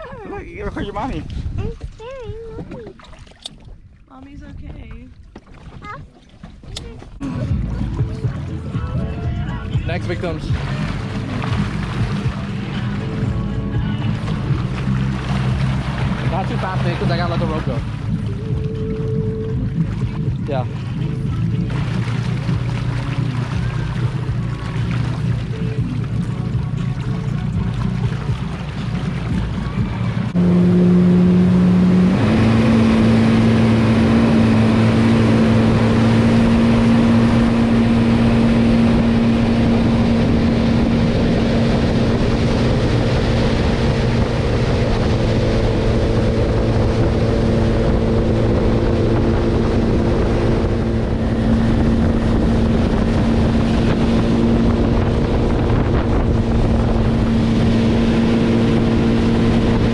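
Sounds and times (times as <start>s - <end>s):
motorboat engine: 0.0s - 59.9s.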